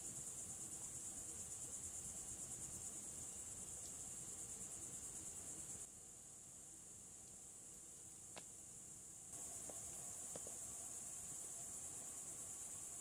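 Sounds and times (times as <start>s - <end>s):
faint low background noise: 0.0s - 13.0s
insects chirring: 0.0s - 13.0s.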